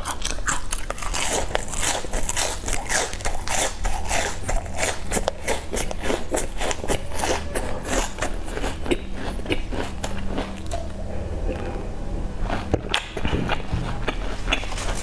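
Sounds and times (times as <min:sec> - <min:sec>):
crunchy chewing of biscuit: 0:00.0 - 0:11.8, 0:12.4 - 0:15.0.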